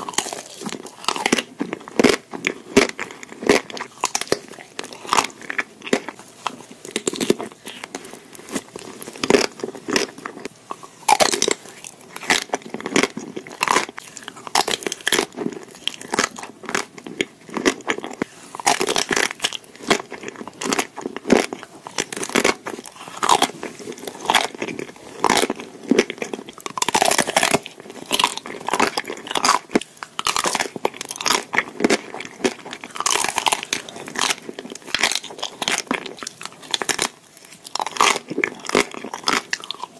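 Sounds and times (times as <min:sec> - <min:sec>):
chocolate shell crunching: 0:00.0 - 0:39.9
wet chewing: 0:00.0 - 0:39.9.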